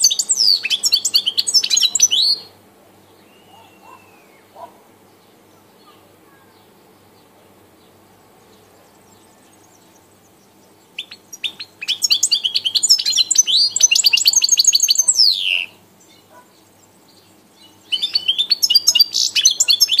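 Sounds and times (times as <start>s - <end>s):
bird twittering song: 0.0s - 20.0s.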